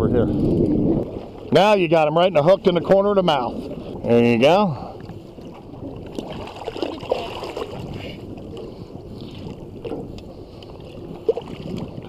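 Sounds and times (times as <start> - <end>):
water splashing beside boat: 0.0 - 12.0.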